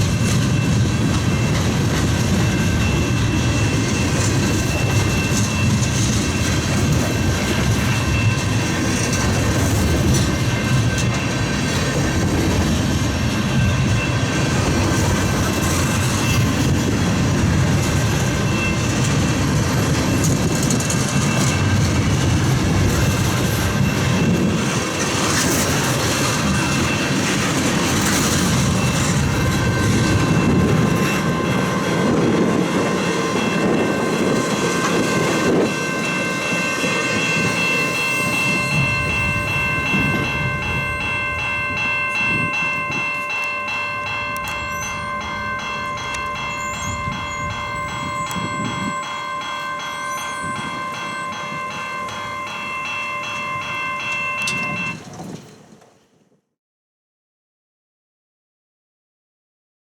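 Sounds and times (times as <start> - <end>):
crossing bell ringing: 0.0 - 55.3
wheels clacking over rail joints: 0.0 - 56.2
freight train cars rumbling: 0.0 - 56.3.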